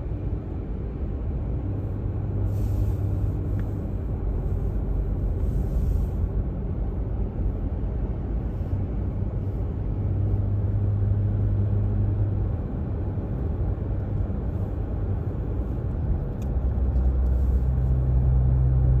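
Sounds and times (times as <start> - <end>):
car engine hum: 0.0 - 19.0
road rumble inside car: 0.0 - 19.0.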